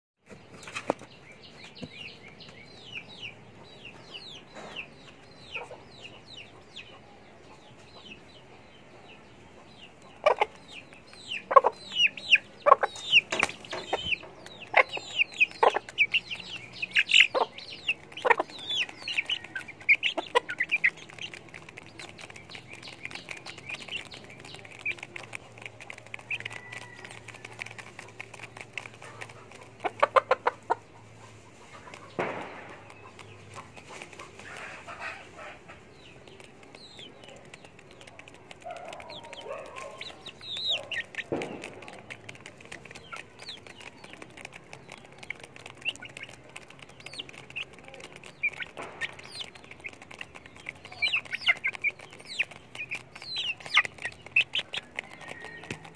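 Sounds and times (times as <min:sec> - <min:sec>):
chicks peeping: 0:00.2 - 0:55.9
chickens clucking: 0:00.3 - 0:55.9.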